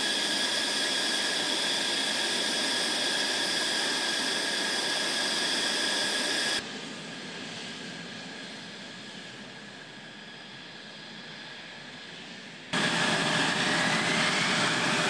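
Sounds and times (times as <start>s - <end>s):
jet engine whine and roar: 0.0s - 15.0s.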